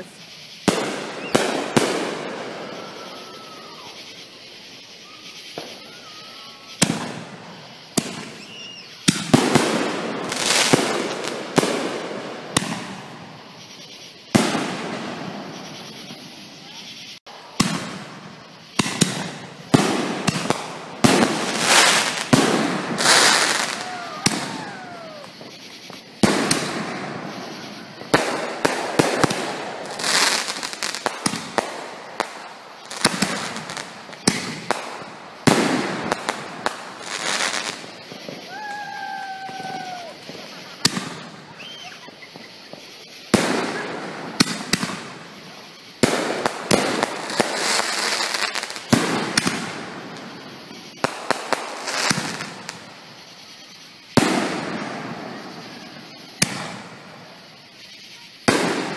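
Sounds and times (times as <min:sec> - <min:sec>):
fireworks bangs: 0:00.0 - 0:58.9
fireworks crackle: 0:00.0 - 0:58.9.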